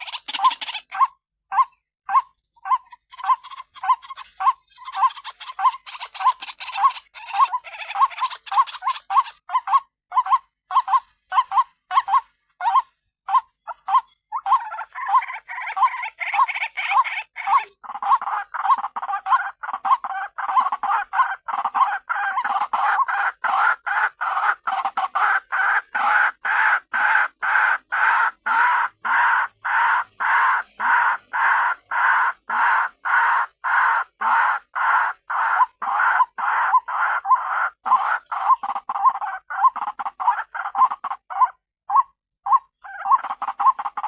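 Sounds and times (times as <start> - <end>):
waterhen calling harsh repeated notes: 0.0 - 44.0.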